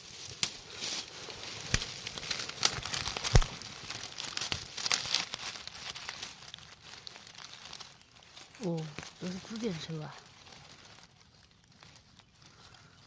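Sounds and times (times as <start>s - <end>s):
dry leaves crackling and rustling: 0.0s - 13.0s
twigs snapping: 0.0s - 13.0s.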